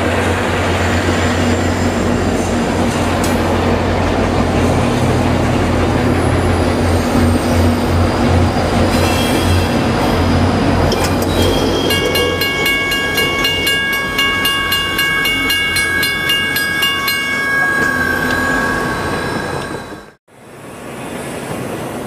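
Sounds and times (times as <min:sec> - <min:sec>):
passenger train rumbling by: 0:00.0 - 0:22.0.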